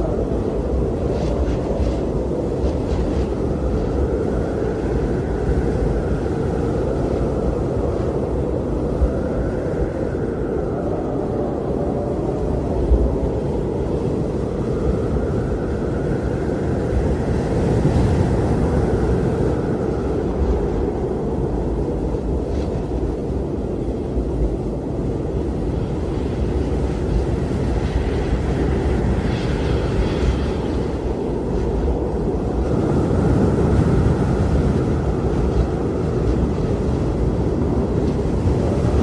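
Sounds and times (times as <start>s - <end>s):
blizzard wind rushing: 0.0s - 39.0s
faint wind whistle: 0.0s - 39.0s.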